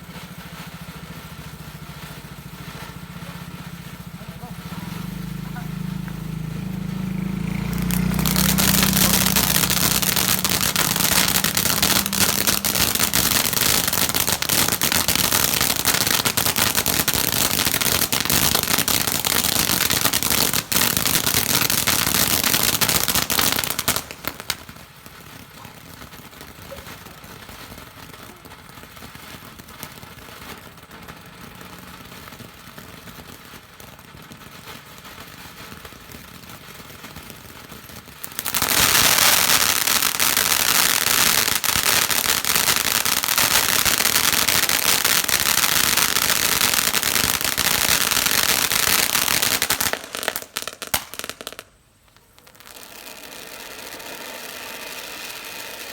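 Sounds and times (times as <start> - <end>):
faint background hiss: 0.0 - 55.9
firework fountain hissing crackle: 0.0 - 55.9.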